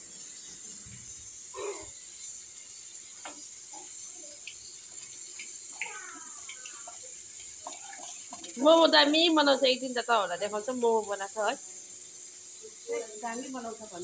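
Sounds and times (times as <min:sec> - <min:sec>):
hot oil sizzling in a pan: 0:00.0 - 0:14.0.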